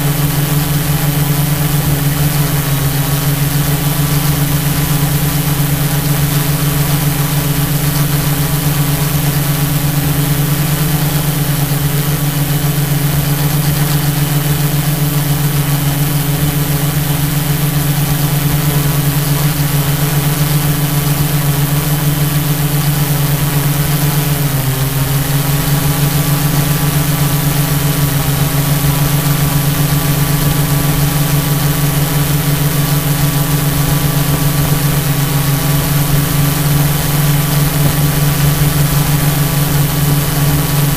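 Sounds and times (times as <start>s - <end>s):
drone motors humming and whining: 0.0s - 40.9s.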